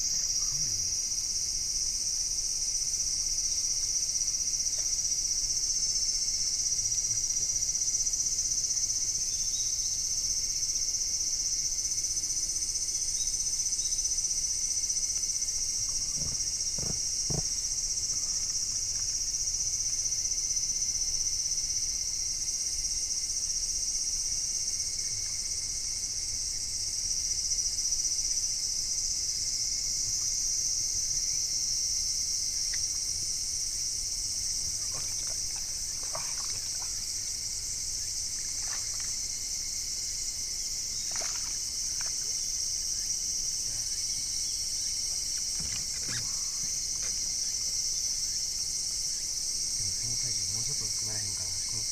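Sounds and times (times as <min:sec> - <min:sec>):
insects chirping: 0:00.0 - 0:51.9.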